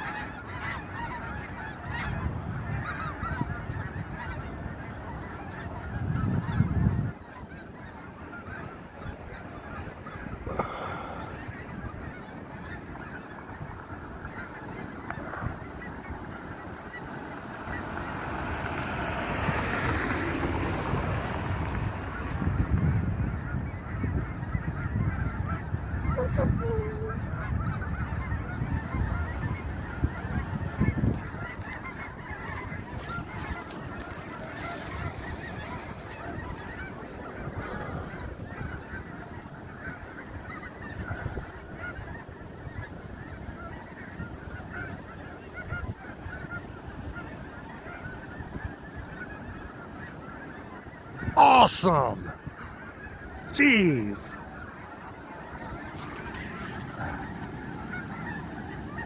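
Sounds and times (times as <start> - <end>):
geese honking: 0.0 - 59.0.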